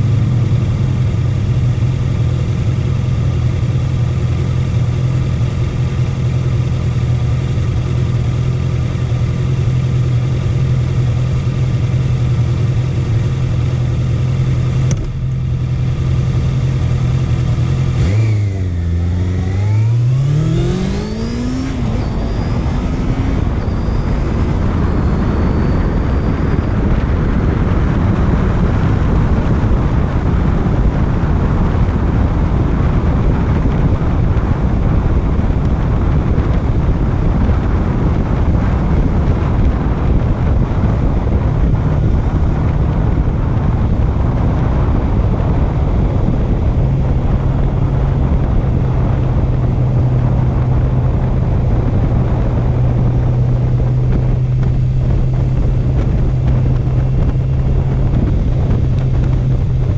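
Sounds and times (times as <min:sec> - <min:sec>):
motorcycle engine accelerating: 0:00.0 - 0:59.9
wind rush on microphone: 0:00.0 - 0:59.9.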